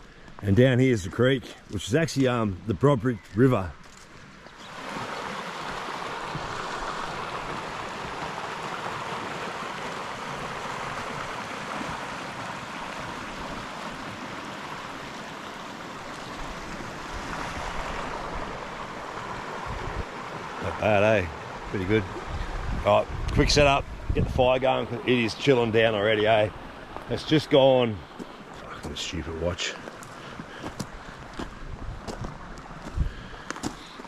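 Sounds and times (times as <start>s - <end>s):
river water flowing: 3.5s - 34.0s.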